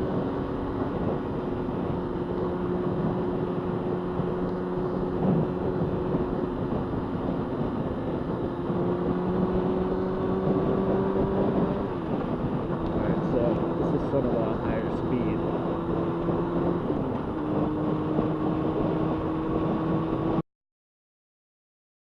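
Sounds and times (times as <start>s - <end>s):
motorcycle engine running: 0.0s - 20.4s
wind rushing over microphone: 0.0s - 20.4s.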